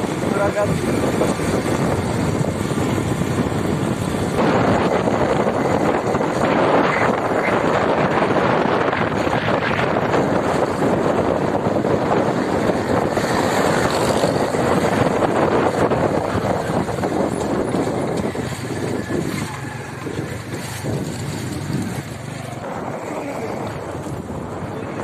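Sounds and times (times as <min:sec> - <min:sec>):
car road and wind noise: 0:00.0 - 0:25.0.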